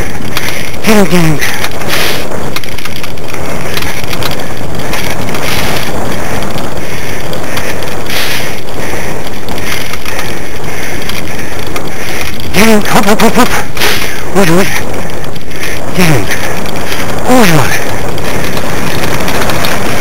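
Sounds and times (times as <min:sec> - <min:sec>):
rig rumbling and rattling over grass: 0:00.0 - 0:20.0
wind buffeting microphone: 0:00.0 - 0:20.0.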